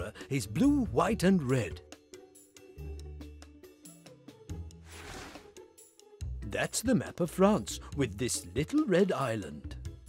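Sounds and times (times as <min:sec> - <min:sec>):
light background music: 0:00.0 - 0:10.0.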